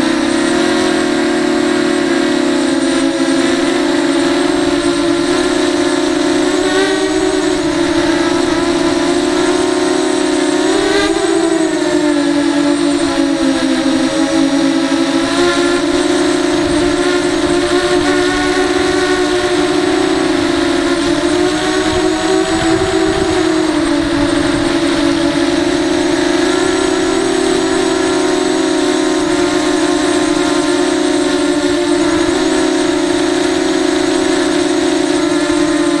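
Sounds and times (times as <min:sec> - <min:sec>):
quadcopter motors whining: 0:00.0 - 0:36.0.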